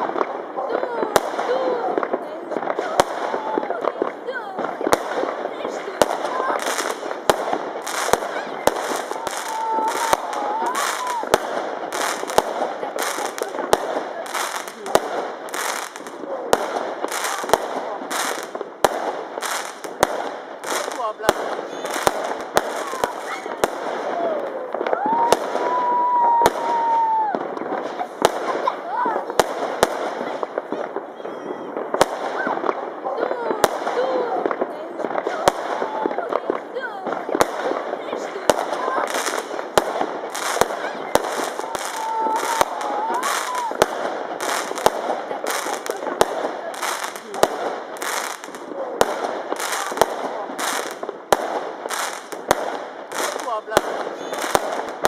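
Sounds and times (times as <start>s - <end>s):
firework bangs: 0.0s - 55.0s
firework hissing crackle: 0.0s - 55.0s.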